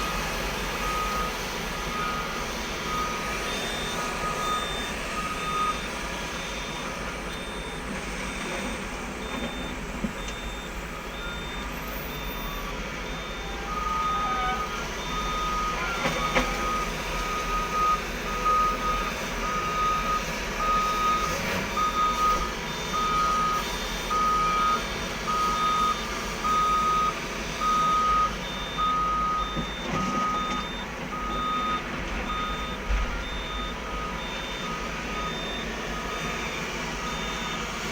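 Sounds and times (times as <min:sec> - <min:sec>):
heavy diesel machinery: 0:00.0 - 0:37.9
high-pitched reversing alarm beeping: 0:00.0 - 0:37.9
low reversing alarm beeping: 0:00.0 - 0:37.9.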